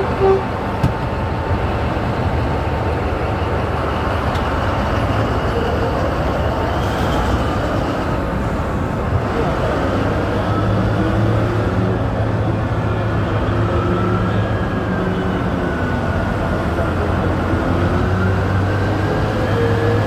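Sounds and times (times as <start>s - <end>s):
diesel truck engines rumbling: 0.0s - 20.0s.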